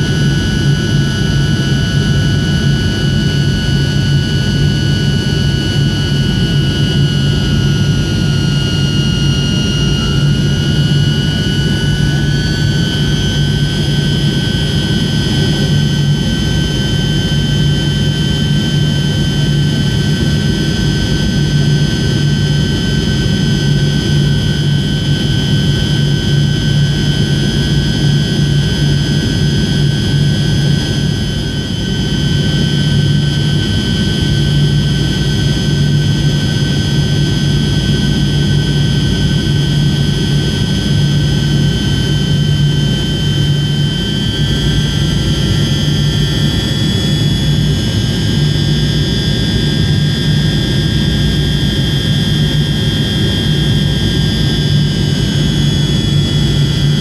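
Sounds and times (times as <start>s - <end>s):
jet engine drone with whine: 0.0s - 57.0s.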